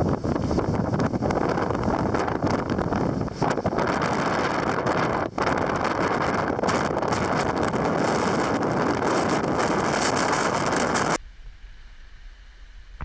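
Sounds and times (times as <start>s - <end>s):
rough breaking sea: 0.0s - 11.2s
wind buffeting microphone: 0.0s - 11.2s.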